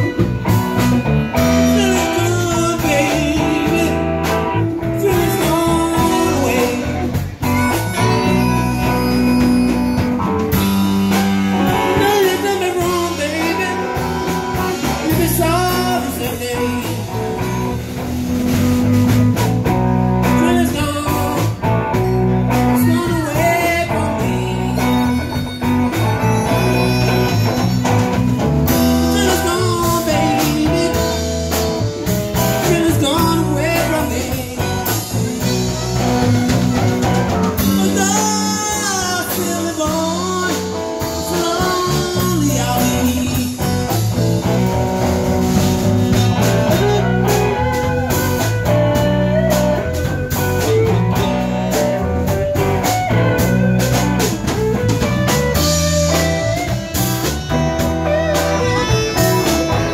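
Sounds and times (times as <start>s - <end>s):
amplified harmonica wailing: 0.0s - 18.1s, 20.3s - 59.9s
blues band playing: 0.0s - 59.9s.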